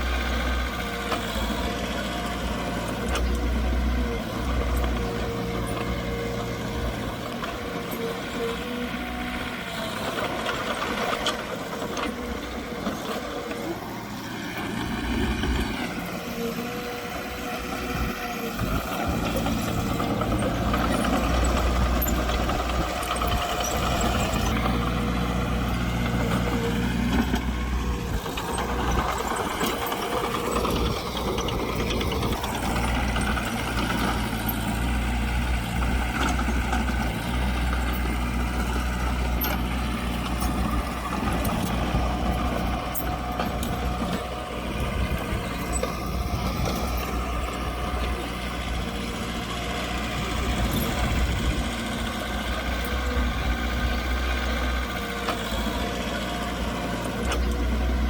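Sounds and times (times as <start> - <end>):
heavy machine diesel engines revving: 0.0 - 58.0.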